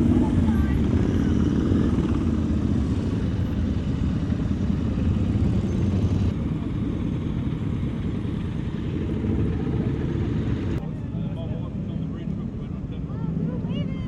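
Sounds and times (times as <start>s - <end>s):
motorcycle engines idling: 0.0s - 14.0s.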